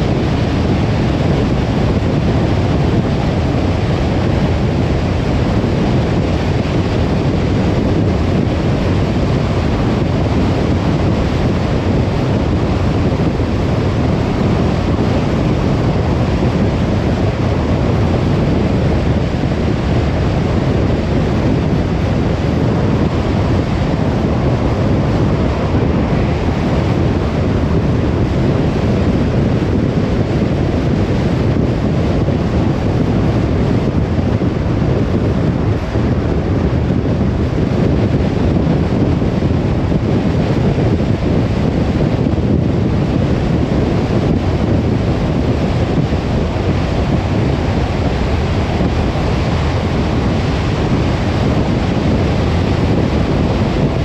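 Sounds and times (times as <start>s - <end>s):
car tyre and wind noise: 0.0s - 54.0s.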